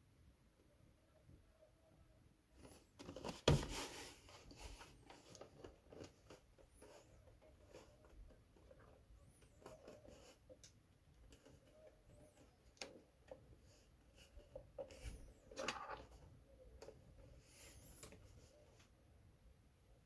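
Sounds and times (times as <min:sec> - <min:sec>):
rustling: 0:02.6 - 0:19.0.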